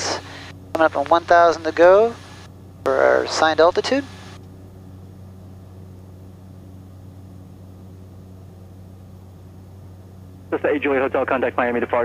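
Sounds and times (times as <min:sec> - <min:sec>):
turboprop engine droning: 0:00.0 - 0:12.0.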